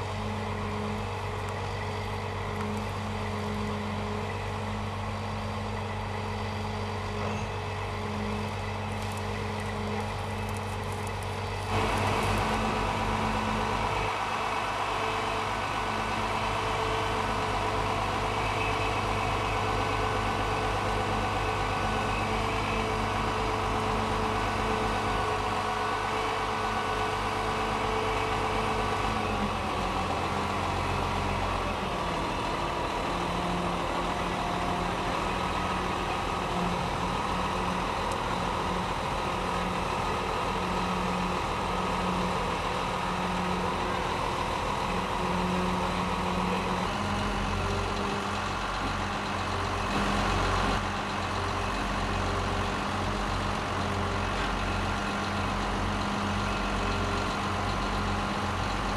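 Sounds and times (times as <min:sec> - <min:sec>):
diesel crane engines running: 0:00.0 - 0:58.9.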